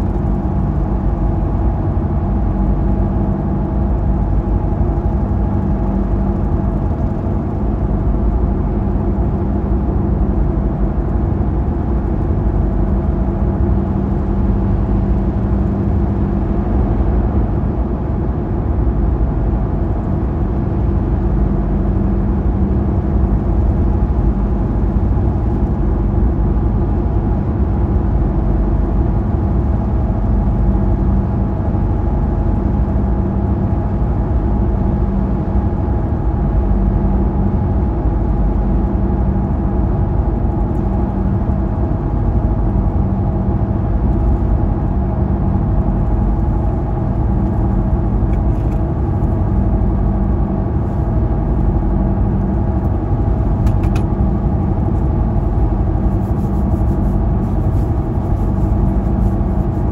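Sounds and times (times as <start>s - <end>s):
road and tyre noise: 0.0s - 59.9s
steady low hum: 0.0s - 59.9s.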